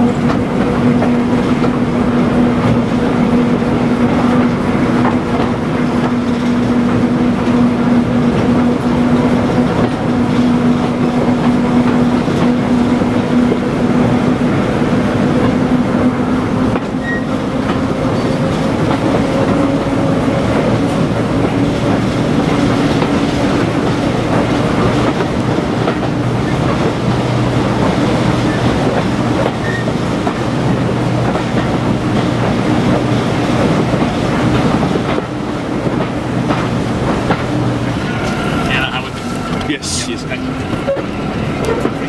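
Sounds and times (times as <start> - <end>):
diesel locomotive engine: 0.0 - 42.0
train running noise: 0.0 - 42.0.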